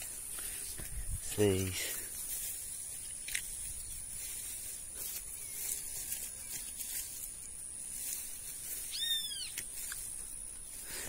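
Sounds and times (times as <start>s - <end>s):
rustling of wet grass: 0.0s - 11.0s
steady high-pitched hiss: 0.0s - 11.0s.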